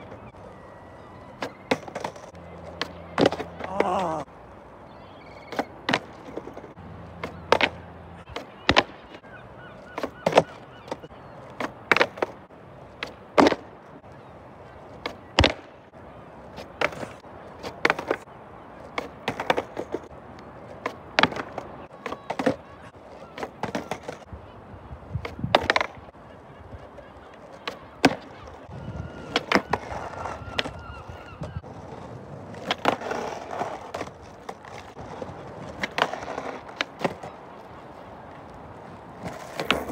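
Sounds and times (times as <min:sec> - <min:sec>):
skateboard tail clacking: 0:00.0 - 0:04.3, 0:05.4 - 0:09.2, 0:09.8 - 0:24.3, 0:25.0 - 0:39.9
skateboard wheels rolling on asphalt: 0:00.0 - 0:39.9.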